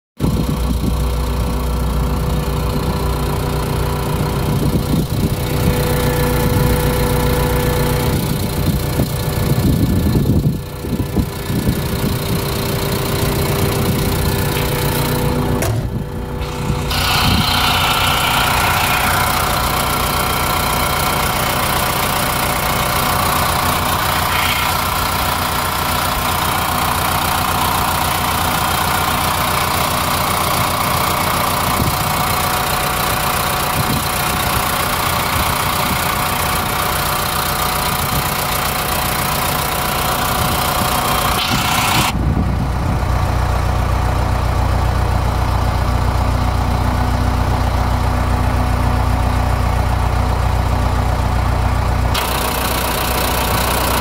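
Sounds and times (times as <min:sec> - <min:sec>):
diesel engine idling: 0:00.2 - 0:54.0.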